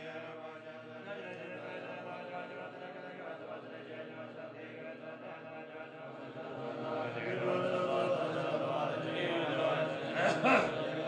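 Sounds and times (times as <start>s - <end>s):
monks chanting in low voices: 0.0s - 11.0s.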